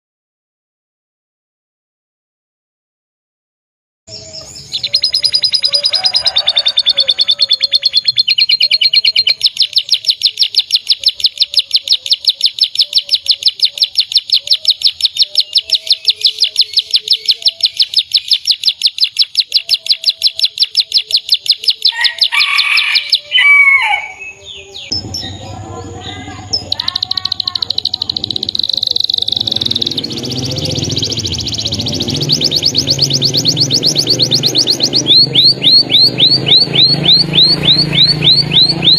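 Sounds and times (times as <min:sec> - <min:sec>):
canary singing trills: 0:04.1 - 0:38.9.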